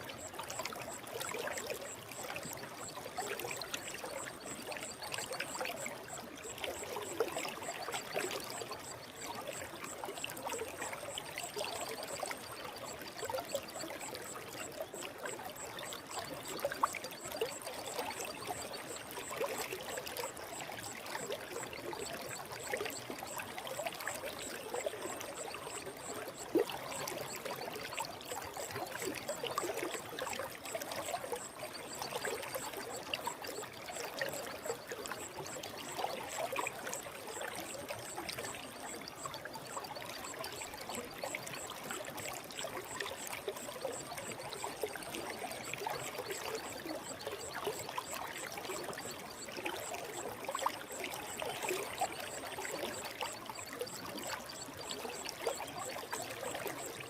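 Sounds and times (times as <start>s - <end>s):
small water splashes: 0.0s - 57.0s
stream water flowing: 0.0s - 57.0s.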